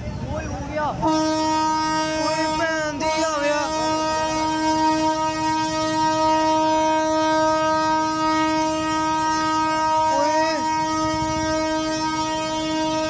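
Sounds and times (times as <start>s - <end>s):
passing train rumble: 0.0s - 13.0s
train horn long tone: 0.9s - 13.0s.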